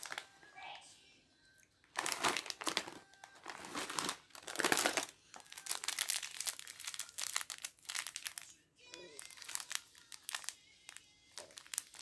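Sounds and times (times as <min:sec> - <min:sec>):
plastic wrappers crinkling: 0:00.0 - 0:00.3, 0:01.8 - 0:12.0.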